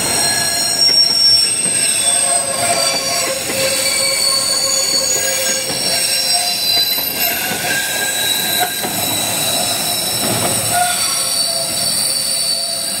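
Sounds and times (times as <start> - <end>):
train rumble and clatter: 0.0 - 13.0
train wheels squealing: 0.0 - 13.0.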